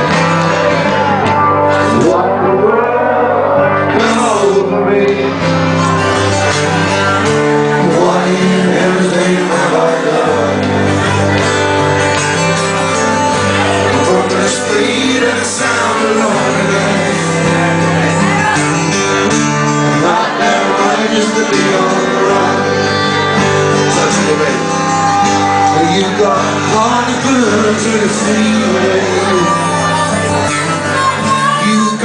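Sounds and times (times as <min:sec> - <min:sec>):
person singing: 0:00.0 - 0:11.9, 0:12.8 - 0:18.8, 0:19.4 - 0:32.0
live acoustic band with guitar: 0:00.0 - 0:32.0.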